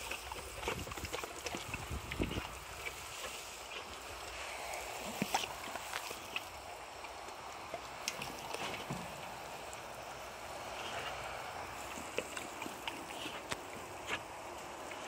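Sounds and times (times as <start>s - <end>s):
hose spraying water on plants: 0.0s - 15.0s.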